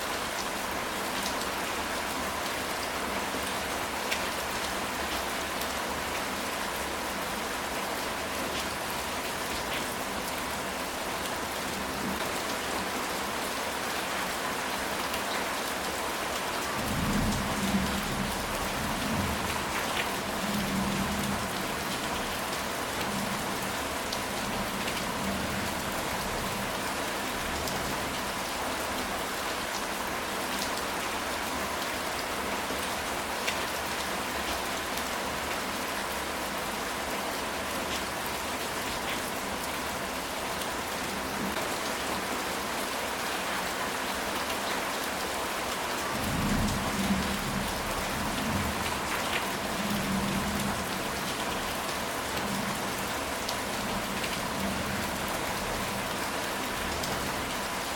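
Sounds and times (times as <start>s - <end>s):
rain on a tile roof: 0.0s - 57.9s.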